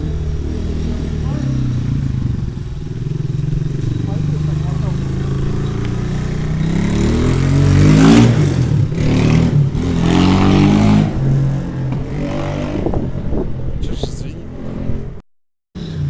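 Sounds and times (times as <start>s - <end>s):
motorcycle engine revving: 0.0s - 13.8s, 15.8s - 16.0s.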